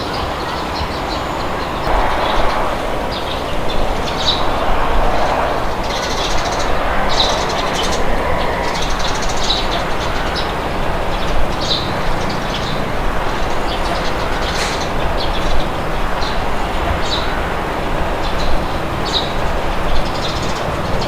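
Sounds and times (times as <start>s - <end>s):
wind with low rumble: 0.2s - 21.0s.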